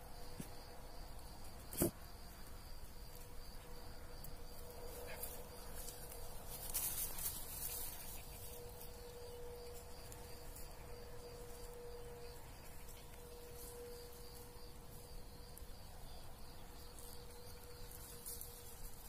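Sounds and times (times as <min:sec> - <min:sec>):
high insect trill: 0:00.0 - 0:19.0
low steady hum: 0:02.3 - 0:19.0.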